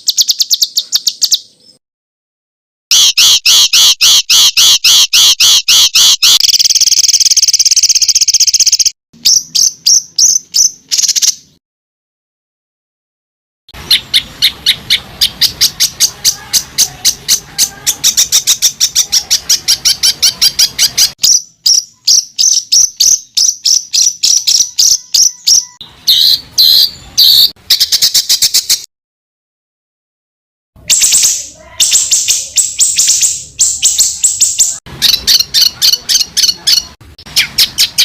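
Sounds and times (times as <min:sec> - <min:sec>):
songbird singing sharp high notes: 0:02.9 - 0:11.6, 0:13.8 - 0:28.9, 0:30.8 - 0:38.0.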